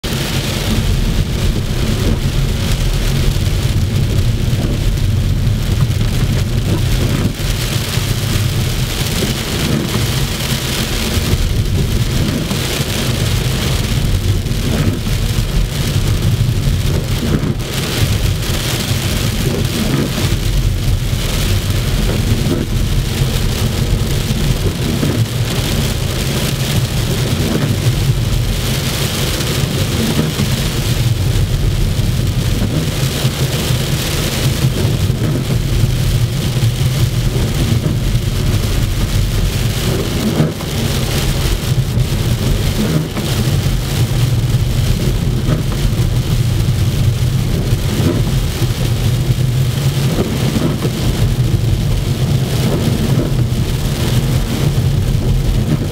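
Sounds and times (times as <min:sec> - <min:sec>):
engine and road rumble: 0:00.0 - 0:55.9.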